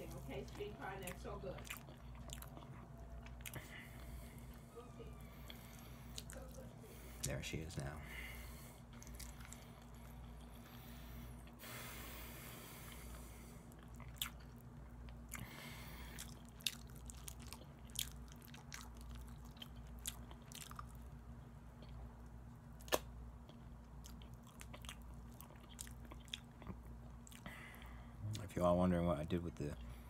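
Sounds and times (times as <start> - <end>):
wet chewing sounds: 0.0 - 7.4, 8.1 - 28.6
steady low hum: 0.0 - 30.0.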